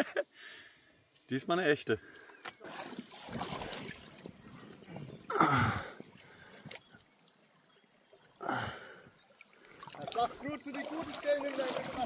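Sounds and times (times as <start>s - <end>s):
river water sloshing and gurgling: 2.3s - 12.0s.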